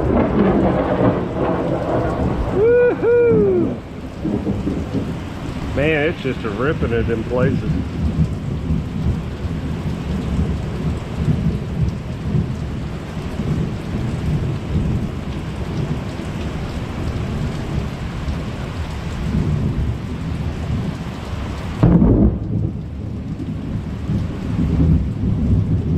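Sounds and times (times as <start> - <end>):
steady rain: 0.0 - 25.9
thunder rumbling: 0.0 - 25.9.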